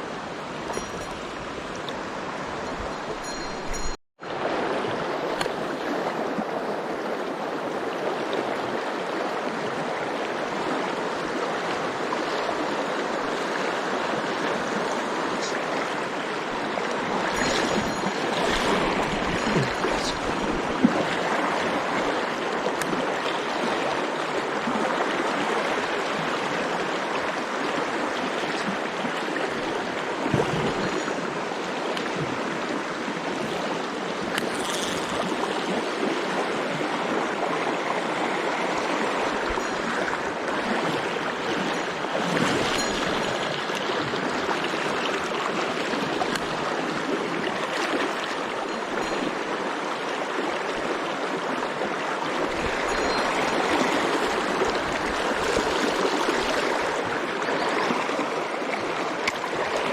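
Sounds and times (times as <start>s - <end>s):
mountain stream running: 0.0s - 59.9s.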